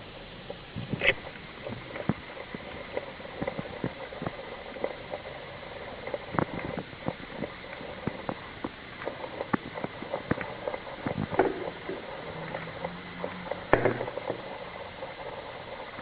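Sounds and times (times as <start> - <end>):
light clicks and ticks: 0.4 - 16.0.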